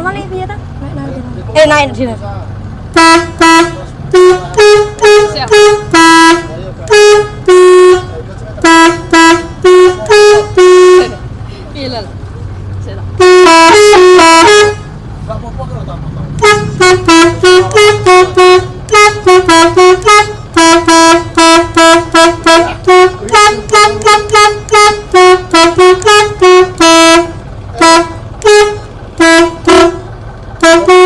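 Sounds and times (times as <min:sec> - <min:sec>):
multi-tone bus horn tune: 0:02.9 - 0:11.4, 0:13.2 - 0:15.0, 0:16.4 - 0:31.0.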